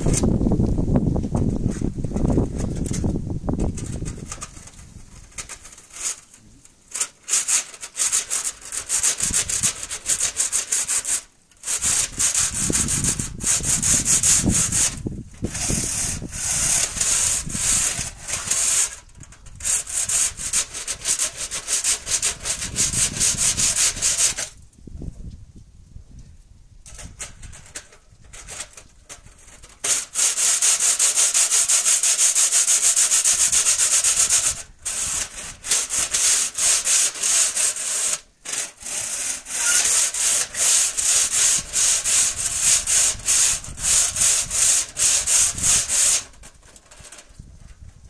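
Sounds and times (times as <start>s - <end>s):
scraping inside a stove pipe: 1.5s - 24.6s, 26.9s - 48.0s.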